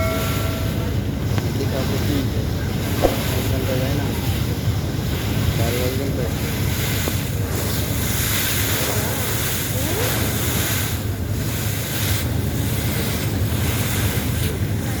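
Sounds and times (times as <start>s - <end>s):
boat engine drone: 0.0s - 15.0s
rushing water: 0.0s - 15.0s
wind buffeting microphone: 0.0s - 15.0s.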